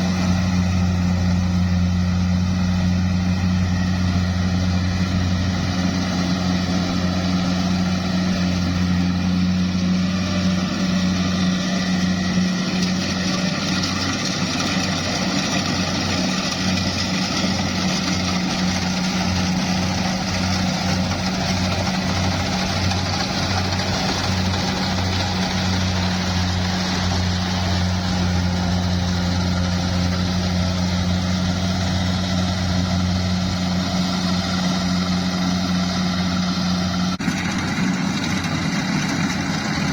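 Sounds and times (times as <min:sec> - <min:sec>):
harvester engine humming: 0:00.0 - 0:39.9.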